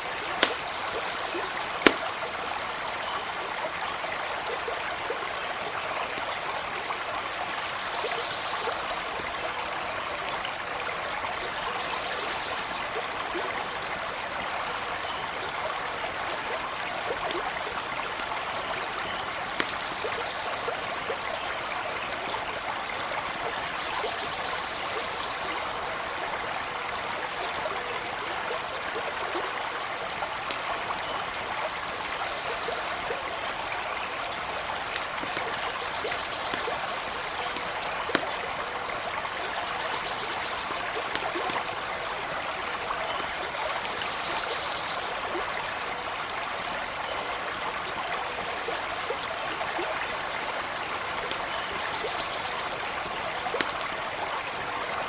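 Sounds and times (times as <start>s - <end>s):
campfire crackling: 0.0s - 43.7s, 45.0s - 55.0s
creek running: 0.0s - 55.0s.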